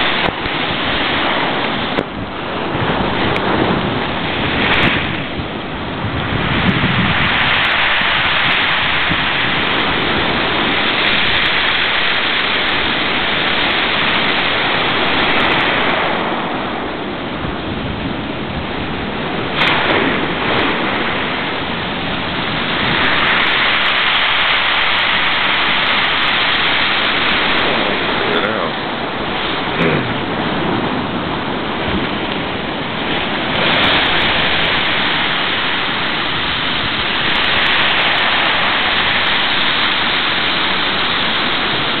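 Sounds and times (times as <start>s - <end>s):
rough sea surf rushing: 0.0s - 42.0s.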